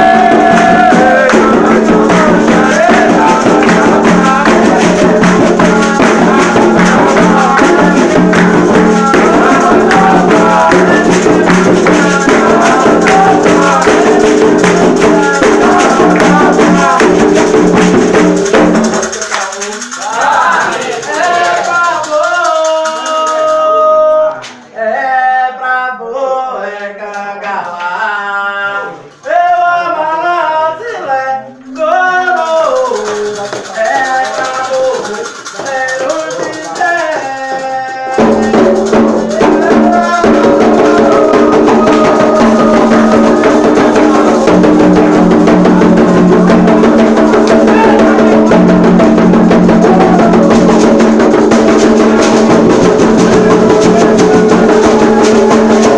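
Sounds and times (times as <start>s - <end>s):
shaken rattle: 0.0s - 23.7s, 32.3s - 55.9s
person singing: 0.0s - 55.9s.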